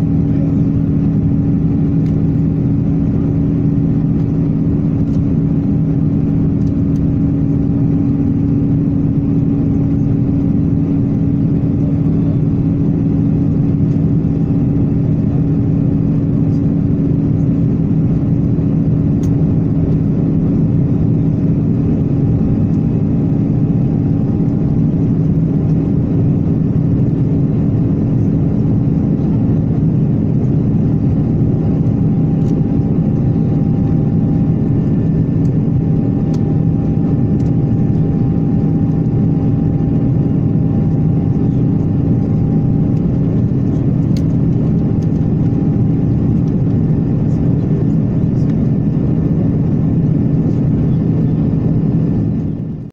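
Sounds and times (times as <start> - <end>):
constant hum tones: 0.0 - 52.9
jet engine drone: 0.0 - 52.9.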